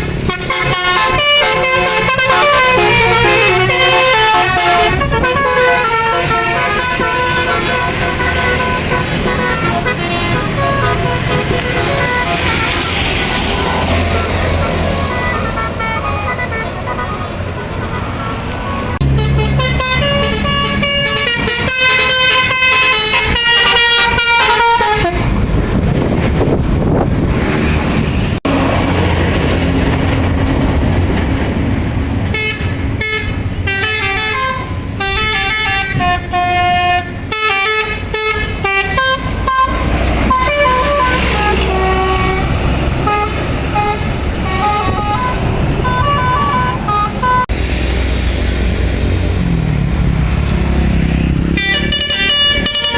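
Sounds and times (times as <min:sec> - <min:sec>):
passing vehicle rushing: 0:00.0 - 0:33.7, 0:34.6 - 0:52.9
musical bus horns: 0:00.0 - 0:47.6, 0:50.6 - 0:52.9.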